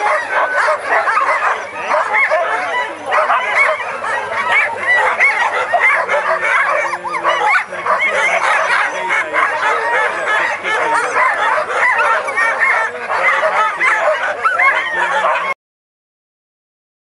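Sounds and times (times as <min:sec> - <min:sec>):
dogs barking and yelping: 0:00.0 - 0:15.6.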